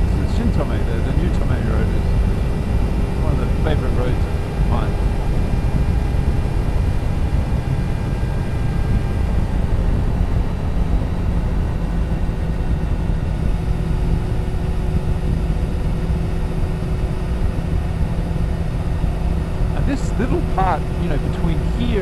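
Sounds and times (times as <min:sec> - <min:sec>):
motorcycle engine and road drone: 0:00.0 - 0:22.0
wind on microphone: 0:00.0 - 0:22.0.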